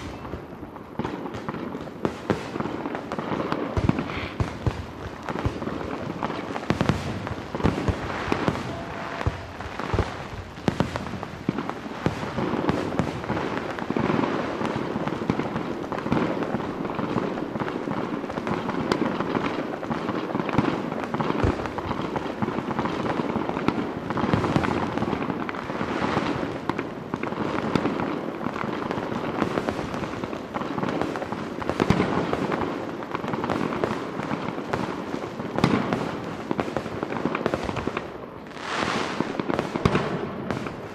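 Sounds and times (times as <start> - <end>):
fireworks bursts and bangs: 0.0 - 40.9
fireworks crackling: 0.0 - 40.9.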